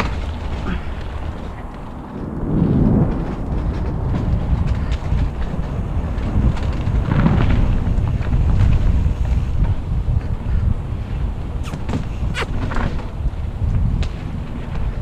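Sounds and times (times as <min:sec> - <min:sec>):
bike tyres rattling over wooden planks: 0:00.0 - 0:15.0
wind buffeting microphone: 0:00.0 - 0:15.0.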